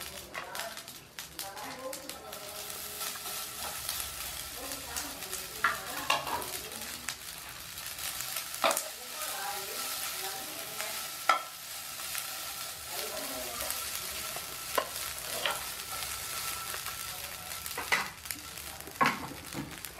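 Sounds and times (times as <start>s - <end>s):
noodles sizzling in a pan: 0.0s - 19.9s
utensils clacking against pan: 1.4s - 7.1s, 8.0s - 19.9s.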